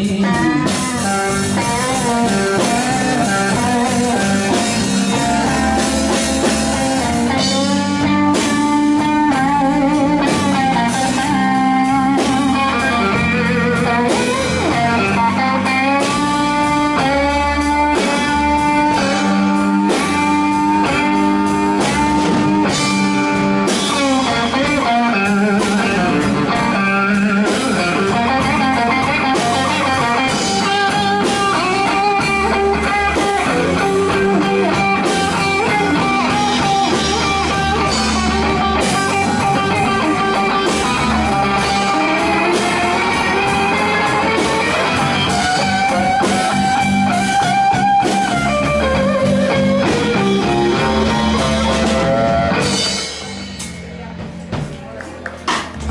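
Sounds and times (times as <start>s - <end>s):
drum kit: 0.0s - 55.9s
electric bass: 0.0s - 55.9s
electric guitar solo: 0.0s - 55.9s.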